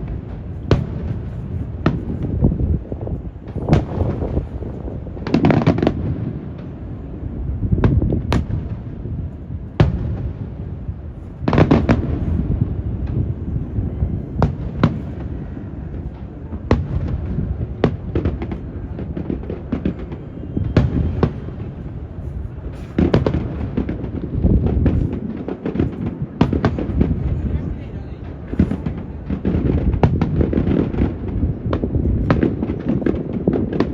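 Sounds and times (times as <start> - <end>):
fireworks bursting with sharp bangs: 0.0 - 33.9
wind rumbling on microphone: 0.0 - 33.9.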